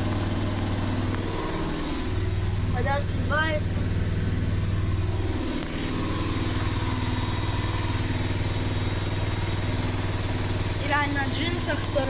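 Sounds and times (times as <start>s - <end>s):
drain pump: 0.0s - 12.0s
washing machine spin cycle hum: 0.0s - 12.0s.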